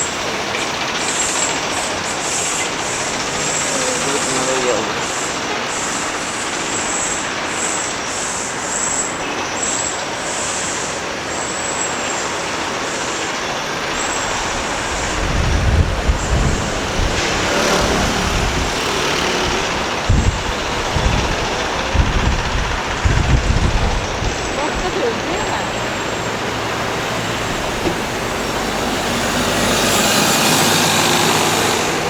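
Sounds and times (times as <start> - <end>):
passing vehicles hiss: 0.0 - 32.0.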